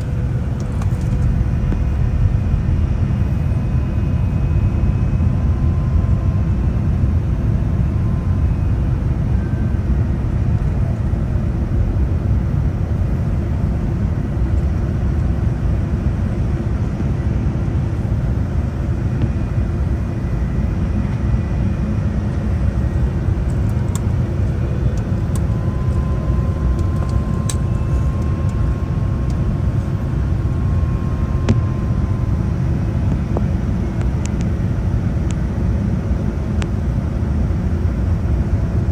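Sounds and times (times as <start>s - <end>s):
airliner cabin engine rumble: 0.0s - 38.9s
faint whining tones: 0.0s - 38.9s.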